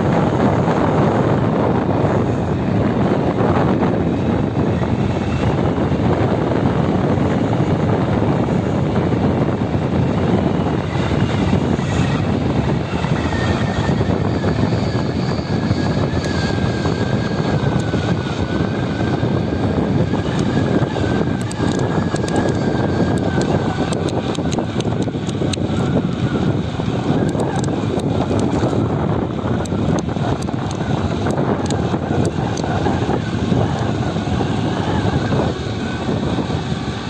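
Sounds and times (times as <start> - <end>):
bicycle tyre noise on road: 0.0 - 37.0
wind rushing over microphone: 0.0 - 37.0.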